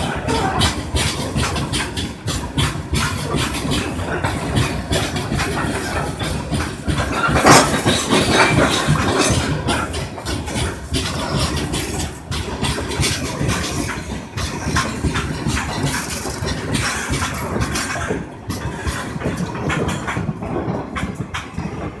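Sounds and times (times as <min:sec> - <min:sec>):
rumble of wheels on rail: 0:00.0 - 0:22.0
wagons clanking and rattling: 0:00.0 - 0:22.0.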